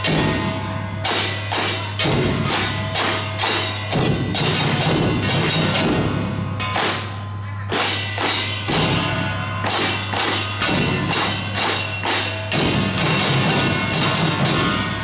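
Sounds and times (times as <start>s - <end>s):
drums striking with ringing tails: 0.0s - 15.0s.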